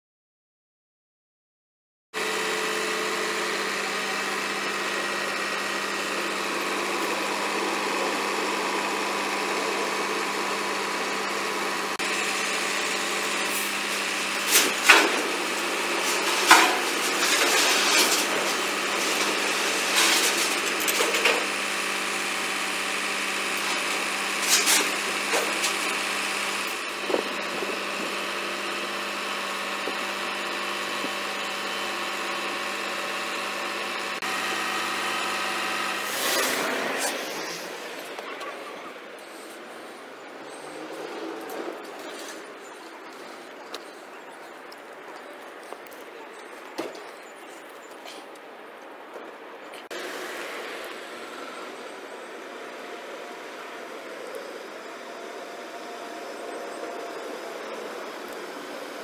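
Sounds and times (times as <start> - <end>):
crane whine: 2.2 - 59.0
diesel engine running: 2.2 - 59.0.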